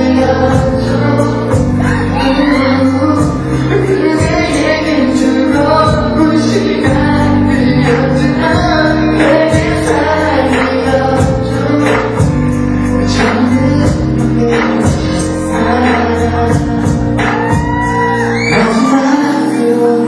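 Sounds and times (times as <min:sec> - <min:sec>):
pop music with singing: 0:00.0 - 0:20.0.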